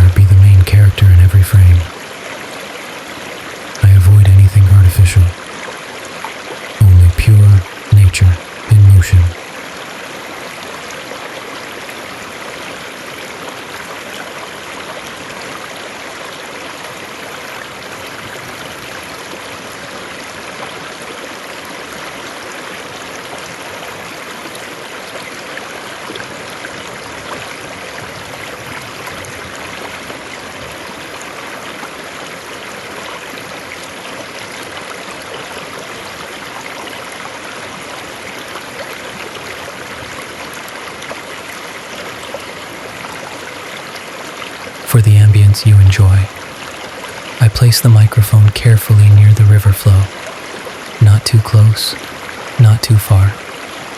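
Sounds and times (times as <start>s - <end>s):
river water flowing: 1.8s - 3.8s, 5.3s - 6.8s, 9.4s - 44.8s, 46.1s - 47.4s, 49.8s - 53.9s.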